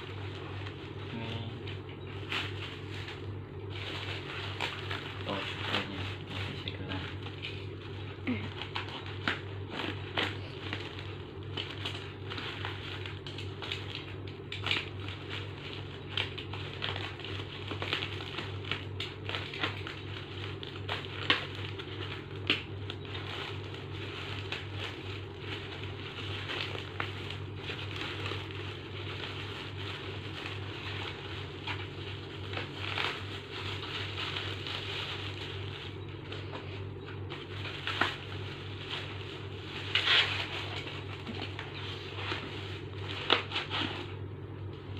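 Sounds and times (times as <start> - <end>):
plastic wrap crinkling: 0.0 - 44.9
steady low hum: 0.0 - 44.9.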